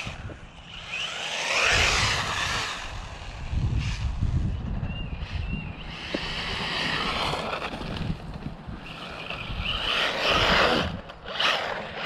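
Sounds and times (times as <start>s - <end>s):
rc truck motor and tyres rushing: 0.0s - 12.0s.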